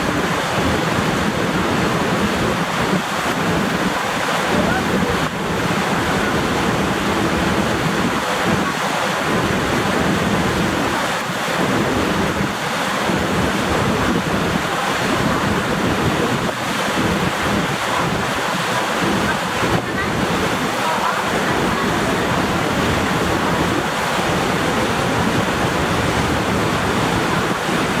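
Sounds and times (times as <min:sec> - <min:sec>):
boat wash and spray: 0:00.0 - 0:28.0
wind buffeting microphone: 0:00.0 - 0:28.0.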